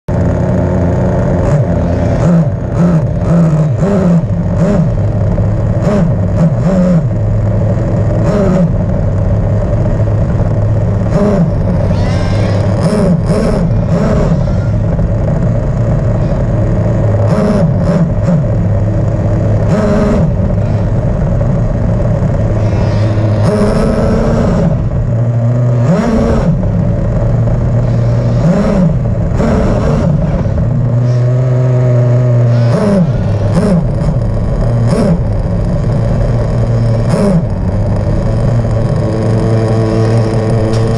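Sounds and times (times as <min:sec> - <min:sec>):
rc car engine revving: 0:00.1 - 0:40.9.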